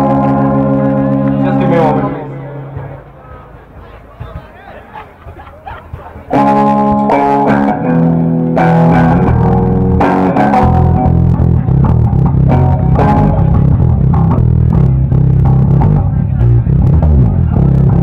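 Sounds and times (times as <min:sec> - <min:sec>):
loud guitar chords: 0:00.0 - 0:04.3, 0:06.2 - 0:18.0
heavy bass line: 0:00.0 - 0:04.9, 0:05.9 - 0:18.0.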